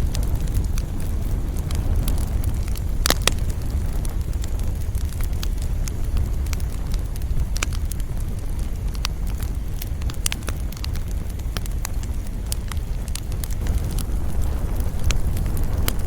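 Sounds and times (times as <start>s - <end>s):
burning wood crackling and popping: 0.0s - 16.0s
campfire low rumble: 0.0s - 16.0s.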